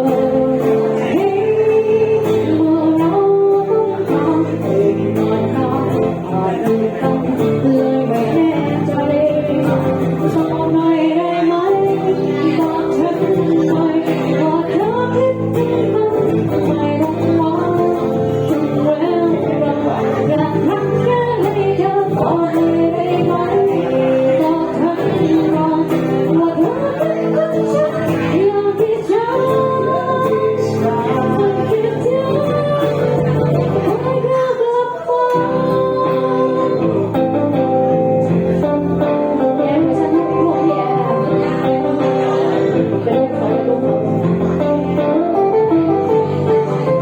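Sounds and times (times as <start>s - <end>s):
guitar accompaniment: 0.0s - 47.0s
woman singing: 0.0s - 47.0s.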